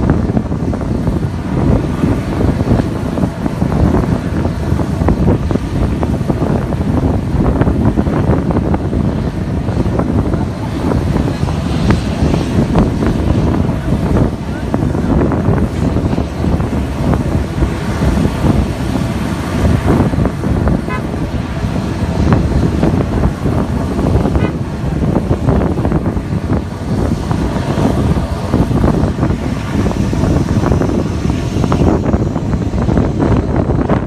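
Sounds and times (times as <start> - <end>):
turboprop engines running: 0.0 - 34.0
wind buffeting microphone: 0.0 - 34.0.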